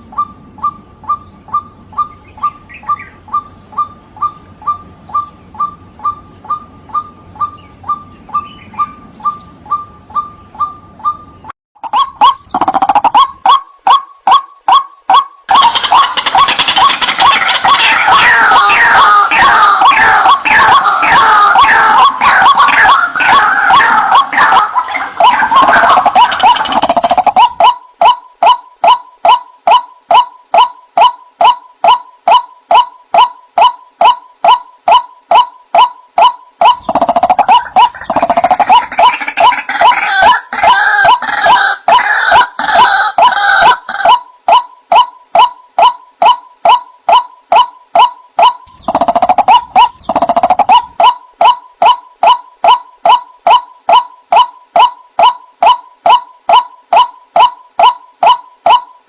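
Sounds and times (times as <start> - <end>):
waterhen calling: 0.0 - 58.9.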